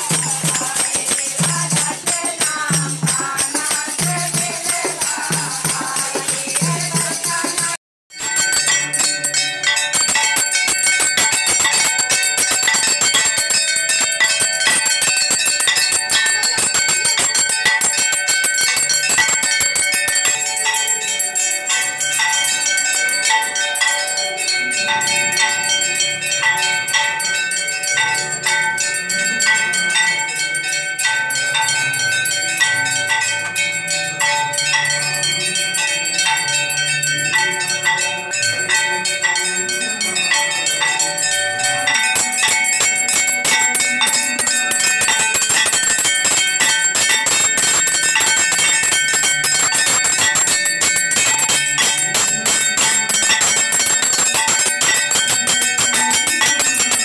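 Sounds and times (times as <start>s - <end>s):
temple bells ringing: 0.0s - 57.0s.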